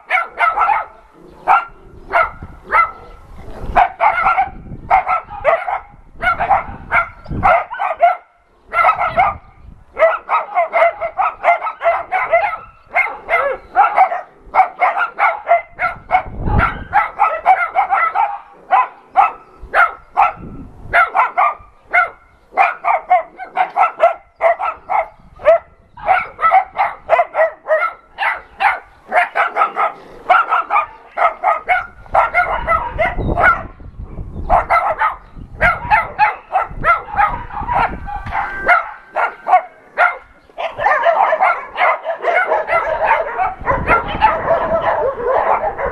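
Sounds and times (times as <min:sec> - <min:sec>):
dogs barking: 0:00.0 - 0:33.8, 0:34.4 - 0:45.9.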